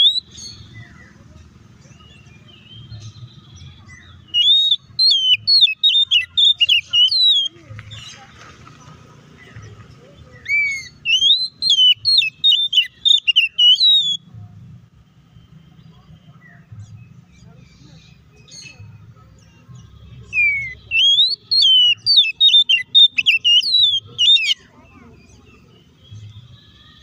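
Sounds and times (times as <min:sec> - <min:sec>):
magpie-robin singing whistled notes: 0:00.0 - 0:01.2, 0:01.9 - 0:08.2, 0:10.2 - 0:14.3, 0:15.3 - 0:27.0.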